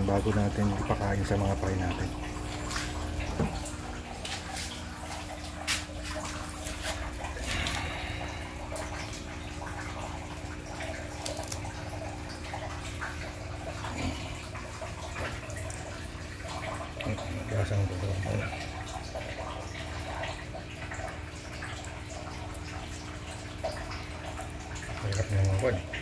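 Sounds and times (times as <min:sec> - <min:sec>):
hose water splashing into tank: 0:00.0 - 0:26.0
steady low hum: 0:00.0 - 0:26.0
water dripping: 0:00.0 - 0:26.0.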